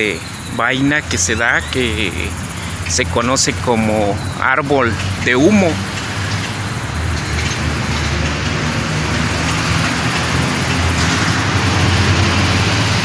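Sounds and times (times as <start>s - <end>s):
road hiss: 0.0s - 13.0s
vehicle engine hum: 0.0s - 13.0s.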